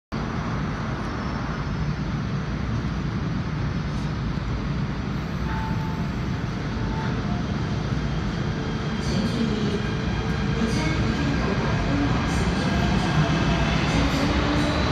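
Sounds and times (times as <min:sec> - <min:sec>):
low rumble of metro platform: 0:00.1 - 0:14.9.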